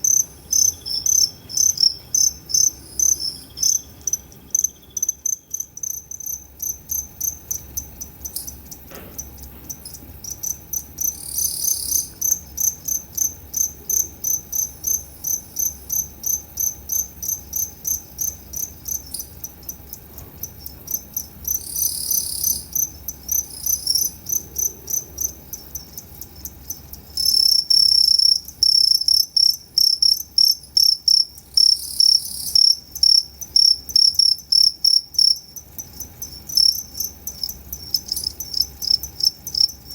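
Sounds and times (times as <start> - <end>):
crickets chirping: 0.0 - 39.9
louder lower-pitched cricket: 0.0 - 39.9.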